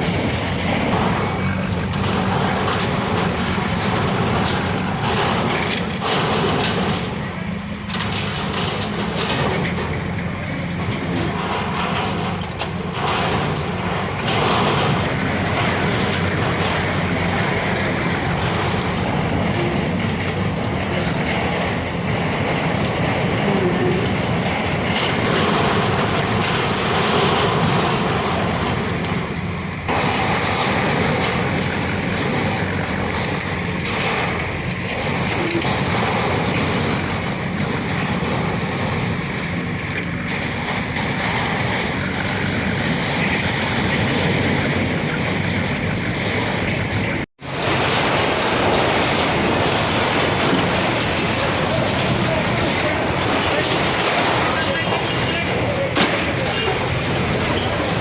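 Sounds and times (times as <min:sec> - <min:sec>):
bulldozer diesel engine running: 0:00.0 - 0:58.0
mechanical clatter: 0:00.0 - 0:58.0.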